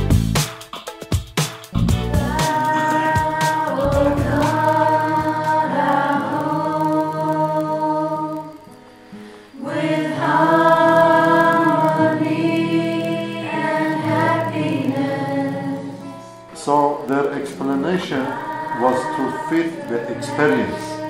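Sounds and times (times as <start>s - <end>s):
acoustic guitar: 0.0s - 21.0s
group of voices singing: 2.1s - 8.8s, 9.5s - 21.0s.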